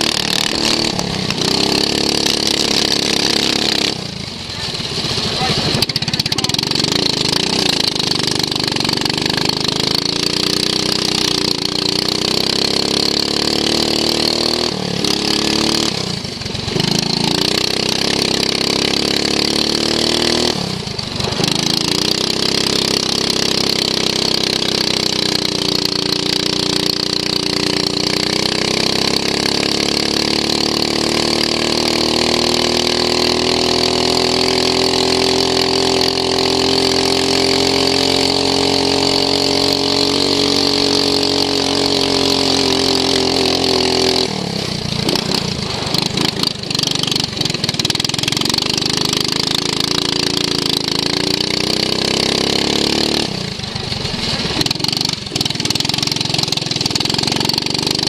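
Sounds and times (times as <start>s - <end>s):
lawn mower engine revving: 0.0s - 58.0s.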